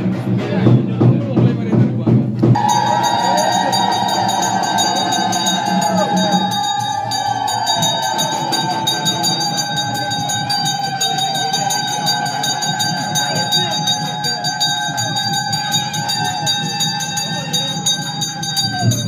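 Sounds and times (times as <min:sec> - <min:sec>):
crowd voices: 0:02.4 - 0:19.0
temple bells ringing rapidly: 0:02.6 - 0:19.0.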